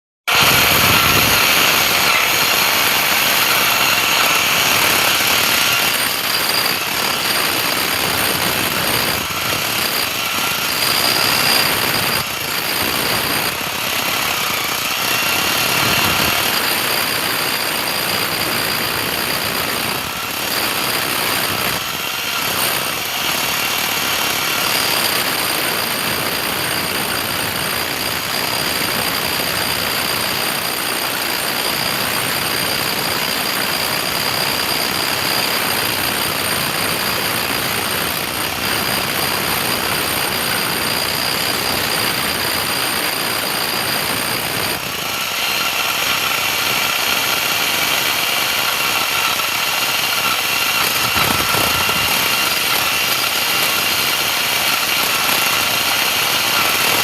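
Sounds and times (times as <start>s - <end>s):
power tool running: 0.3s - 57.0s.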